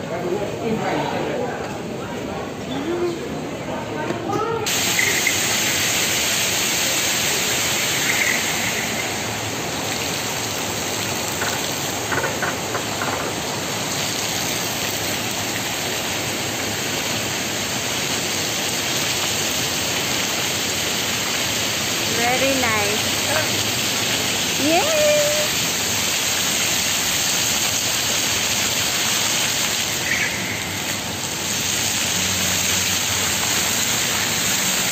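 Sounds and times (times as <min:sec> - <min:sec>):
fountain water splashing: 0:04.7 - 0:34.9.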